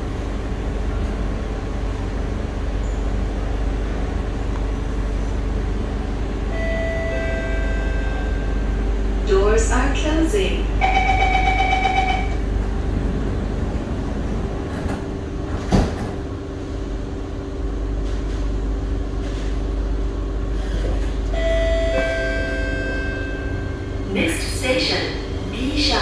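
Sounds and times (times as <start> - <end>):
train carriage running hum: 0.0 - 26.0.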